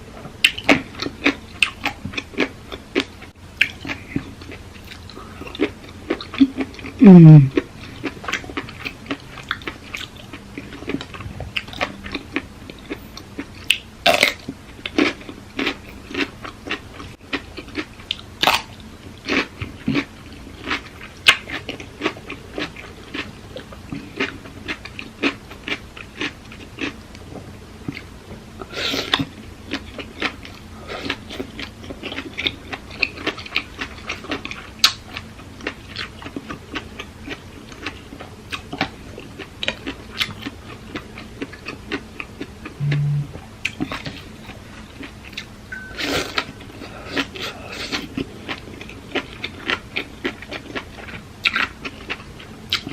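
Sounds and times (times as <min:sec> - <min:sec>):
crunchy chewing: 0:07.6 - 0:52.9.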